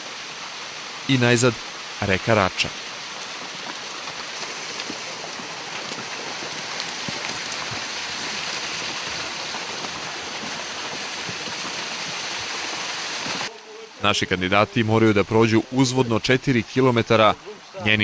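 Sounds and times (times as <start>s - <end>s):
stream rushing over waterfall: 0.0s - 18.0s.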